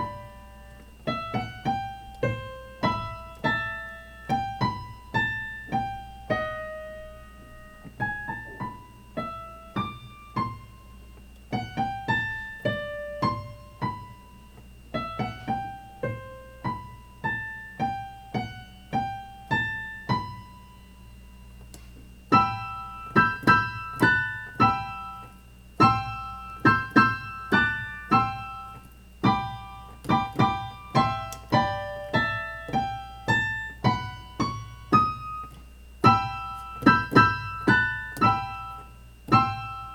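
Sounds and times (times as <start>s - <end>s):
piano playing simple tune: 0.0s - 39.9s.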